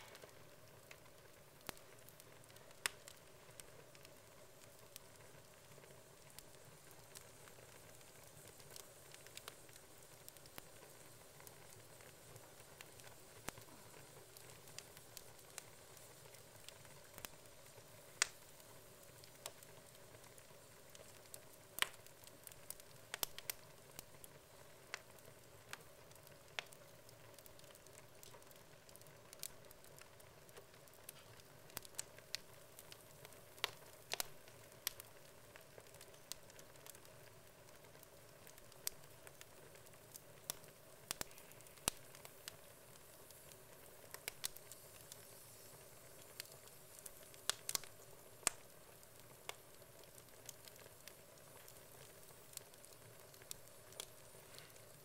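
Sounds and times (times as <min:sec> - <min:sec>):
wood logs crackling in fireplace: 0:00.0 - 0:55.0.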